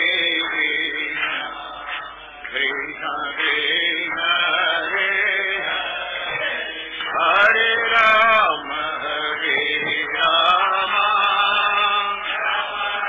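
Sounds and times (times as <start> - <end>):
voices chanting devotional song: 0.0 - 13.0.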